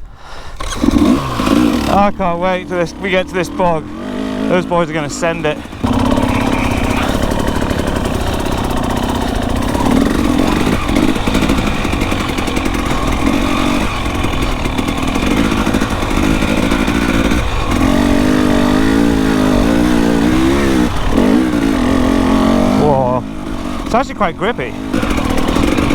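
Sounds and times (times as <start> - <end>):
dirt bike engine revving: 0.4 - 25.9.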